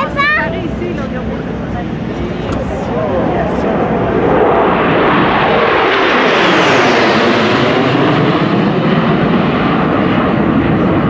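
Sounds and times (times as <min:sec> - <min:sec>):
fighter jets roaring overhead: 0:00.0 - 0:11.0.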